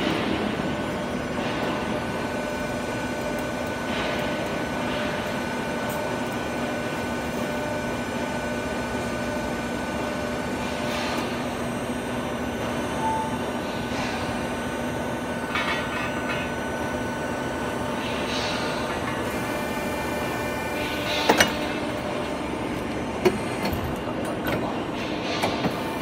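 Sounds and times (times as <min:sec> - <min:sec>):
hydraulic machine hum: 0:00.0 - 0:26.0.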